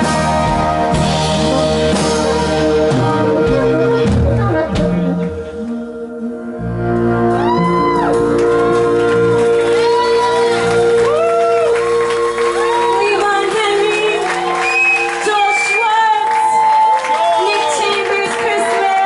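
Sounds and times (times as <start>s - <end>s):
folk band playing instrumental: 0.0s - 16.0s.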